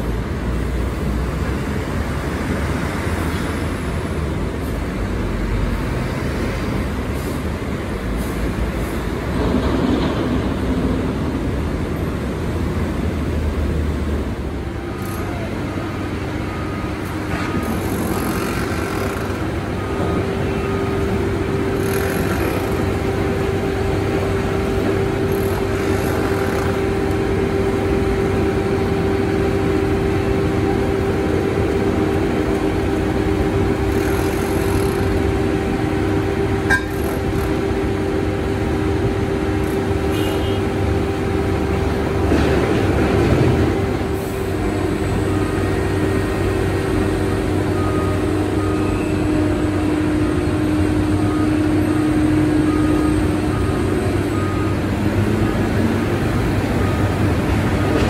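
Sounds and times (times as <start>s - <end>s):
heavy machinery engine hum: 0.0s - 58.0s
road traffic rumble: 0.0s - 58.0s.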